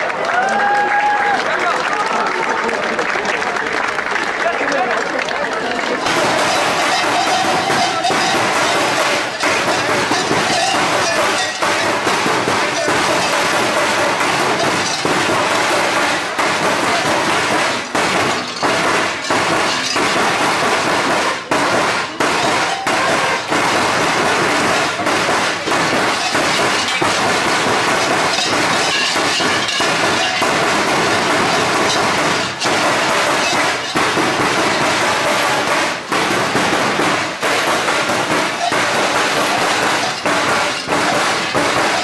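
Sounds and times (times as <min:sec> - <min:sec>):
cowbells clanging: 0:06.0 - 0:42.0.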